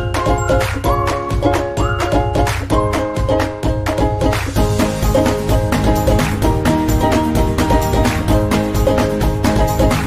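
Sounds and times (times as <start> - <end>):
upbeat music with plucked strings: 0.0 - 10.0.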